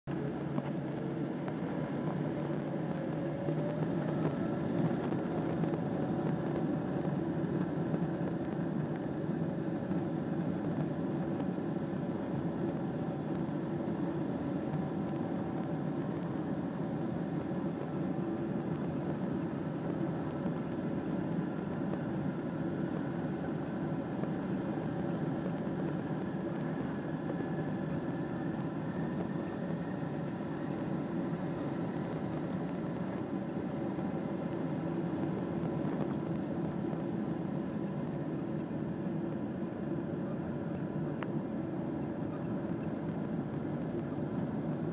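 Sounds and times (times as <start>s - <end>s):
jet engines rumbling and whining: 0.1s - 44.9s.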